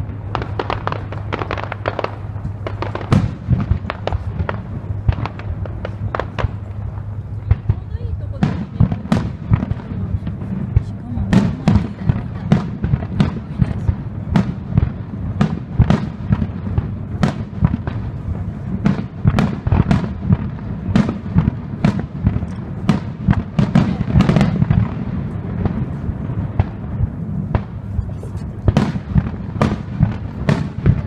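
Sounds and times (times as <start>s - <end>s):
fireworks bangs: 0.0s - 31.0s
steady low rumble: 0.0s - 31.0s.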